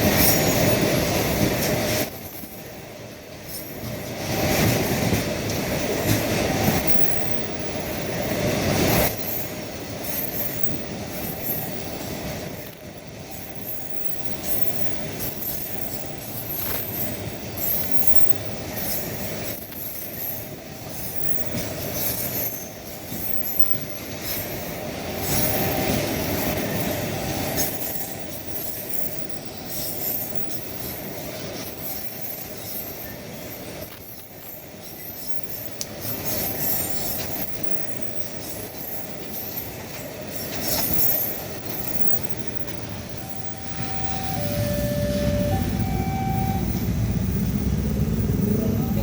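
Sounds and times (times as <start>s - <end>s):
train wheel noise: 0.0s - 49.0s
wheels squealing on rails: 0.0s - 49.0s.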